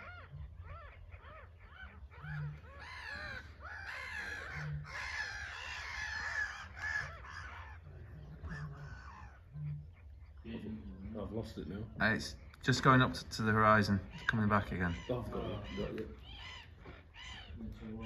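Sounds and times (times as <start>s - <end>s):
birds giving harsh calls: 0.0s - 18.0s.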